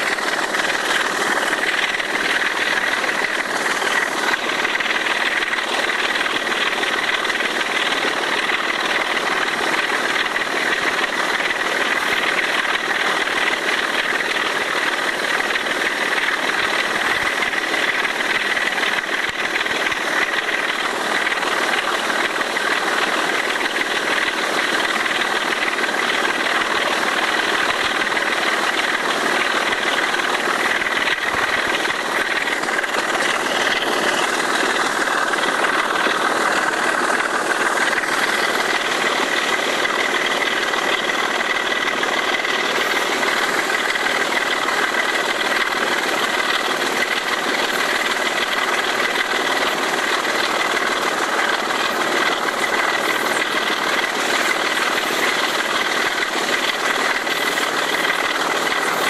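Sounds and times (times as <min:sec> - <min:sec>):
diesel locomotive engine at full power: 0:00.0 - 0:59.0.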